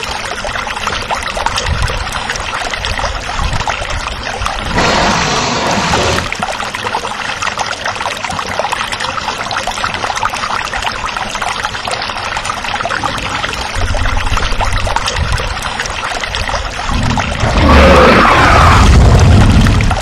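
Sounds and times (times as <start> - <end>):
running water crackle: 0.0 - 20.0.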